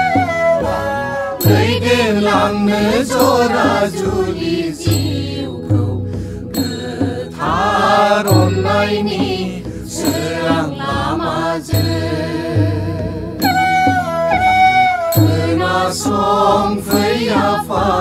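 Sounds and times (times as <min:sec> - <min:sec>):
person singing wavering melody: 0:00.0 - 0:18.0.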